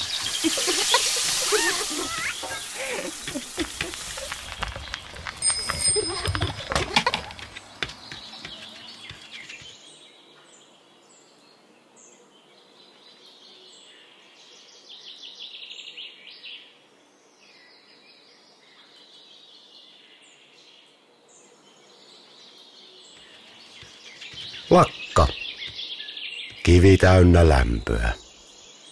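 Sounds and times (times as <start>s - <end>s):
songbirds chirping and singing: 0.0s - 28.9s.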